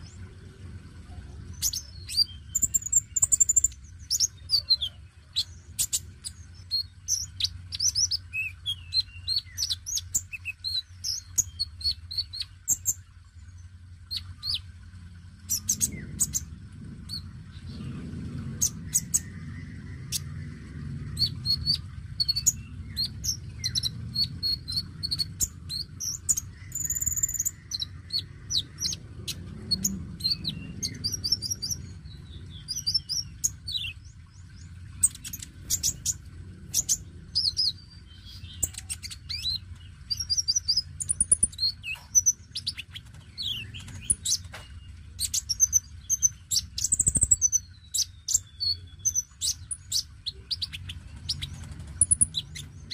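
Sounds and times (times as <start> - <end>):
bird chirping and trilling: 0.0 - 52.9
steady low hum: 0.0 - 52.9.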